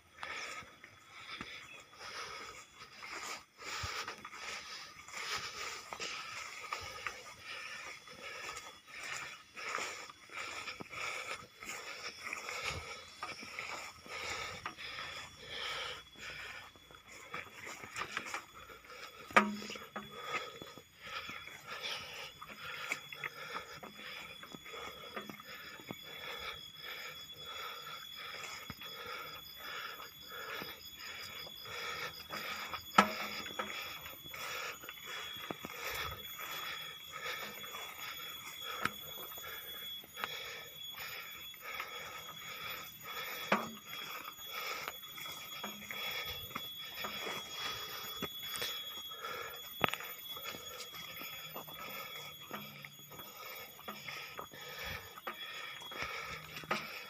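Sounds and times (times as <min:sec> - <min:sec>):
footsteps on dirt path: 0:00.0 - 0:57.0
insects trilling: 0:00.0 - 0:57.0.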